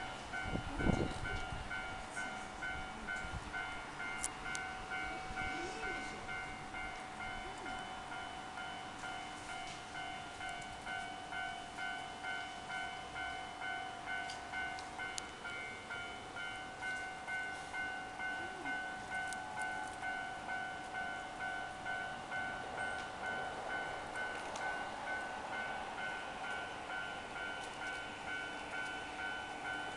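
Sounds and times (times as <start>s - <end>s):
level-crossing warning bell ringing: 0.0s - 29.9s.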